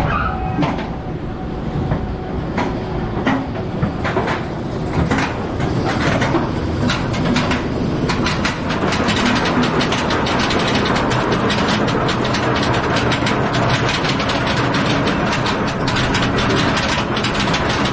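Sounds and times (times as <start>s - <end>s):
roller coaster train rumbling: 0.0s - 17.9s
lift hill clicks and rattles: 1.7s - 17.9s.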